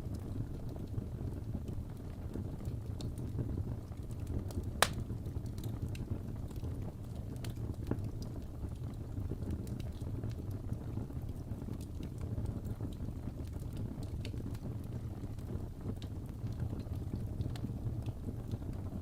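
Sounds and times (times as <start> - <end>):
wood fire burning: 0.0 - 19.0.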